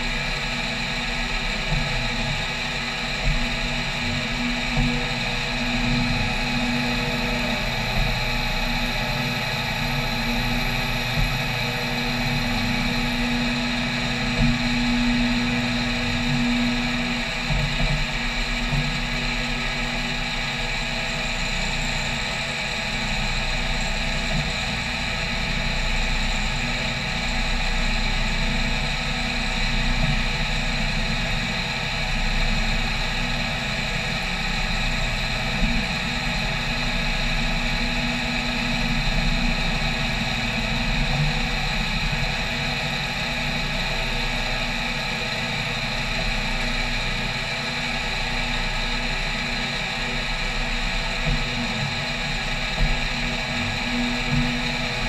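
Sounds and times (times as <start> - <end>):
milling machine cutting whine: 0.0 - 55.0.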